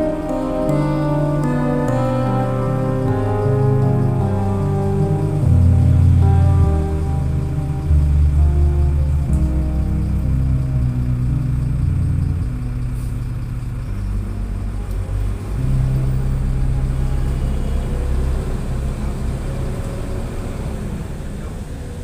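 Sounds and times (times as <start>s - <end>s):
bus engine droning: 0.0s - 22.0s
road rumble: 0.0s - 22.0s.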